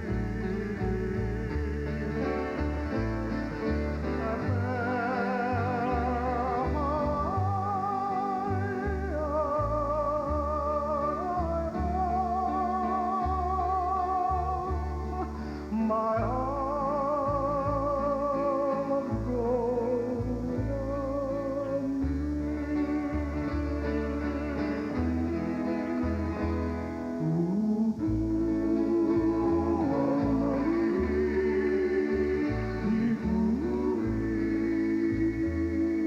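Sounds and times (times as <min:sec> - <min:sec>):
vocal group singing in harmony: 0:00.0 - 0:20.0, 0:21.2 - 0:36.0
plucked guitar: 0:00.0 - 0:36.0
steady bass line: 0:00.0 - 0:36.0.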